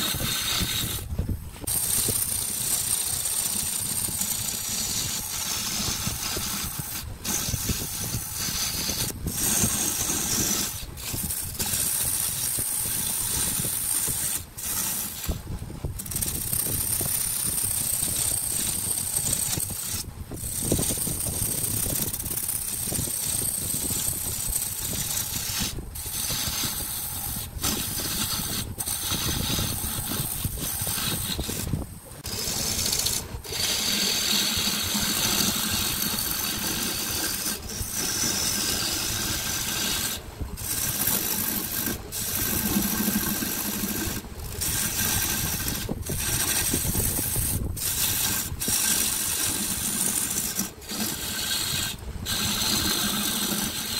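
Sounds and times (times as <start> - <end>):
gouge cutting wood on lathe: 0.0 - 53.9.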